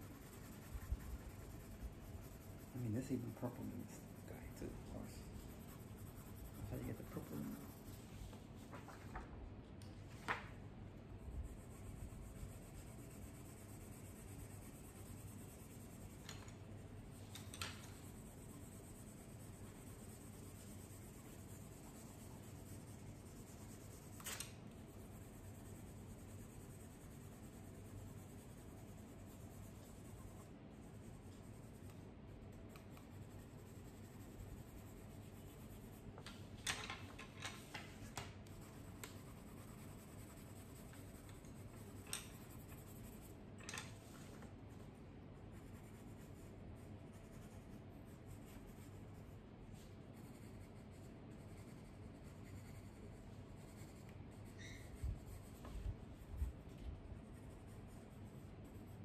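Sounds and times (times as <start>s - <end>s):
pencils scratching on paper: 0.0s - 9.2s, 11.0s - 59.0s.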